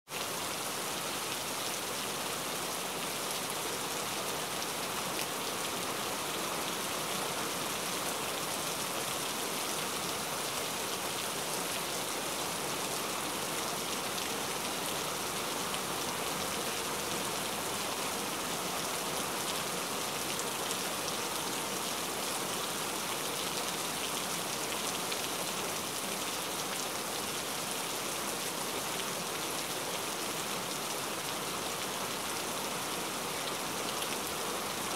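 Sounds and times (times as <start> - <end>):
steady rain-like hiss: 0.1 - 34.9.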